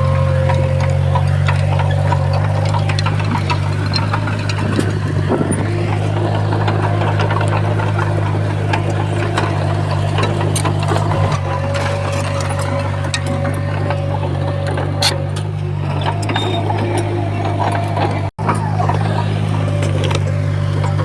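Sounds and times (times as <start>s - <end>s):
diesel engine humming: 0.0s - 21.0s.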